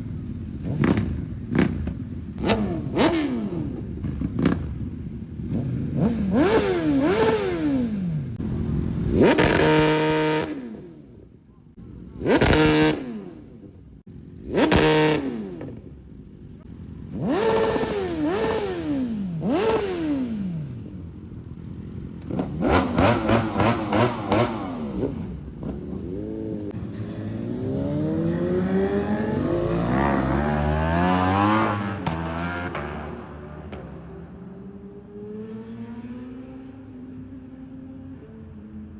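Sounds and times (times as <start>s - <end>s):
motorcycle engine revving: 0.0s - 11.3s, 12.0s - 38.9s.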